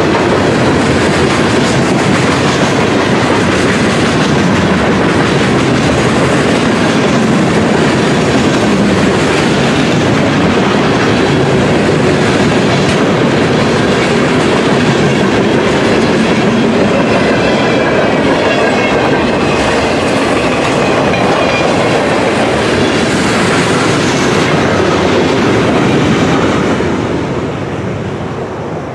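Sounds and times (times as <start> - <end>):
freight train wheels clattering: 0.0 - 27.5.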